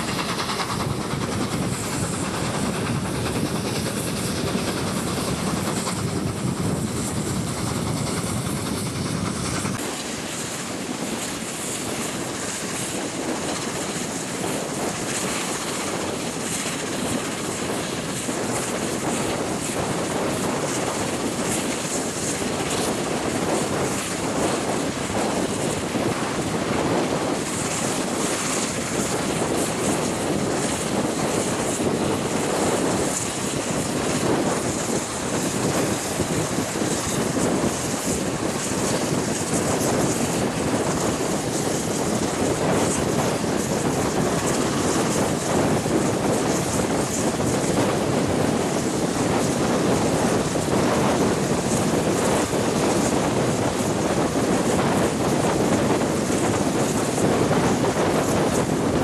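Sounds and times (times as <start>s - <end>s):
train wheels rattling on rails: 0.0s - 59.0s.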